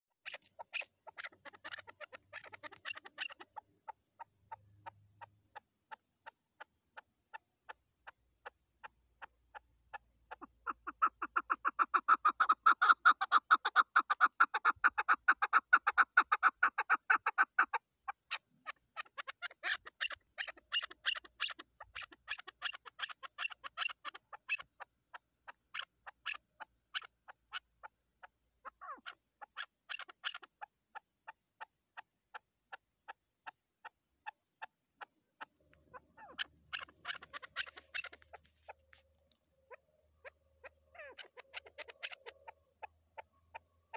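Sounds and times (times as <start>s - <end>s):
partridge chuck calls: 0.2s - 38.9s, 39.7s - 43.9s.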